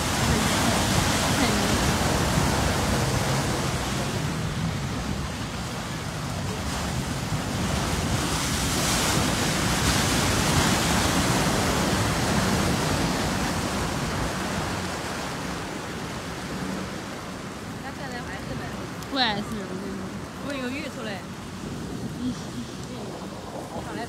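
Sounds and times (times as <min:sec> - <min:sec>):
vehicles splashing through water: 0:00.0 - 0:24.0.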